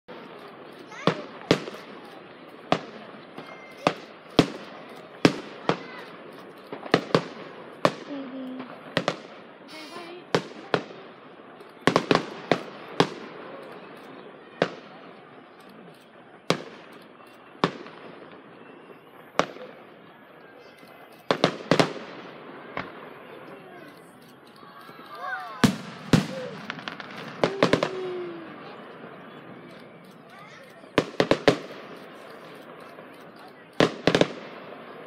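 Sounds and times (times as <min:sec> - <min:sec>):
fireworks bursting with echo: 0:00.1 - 0:35.0.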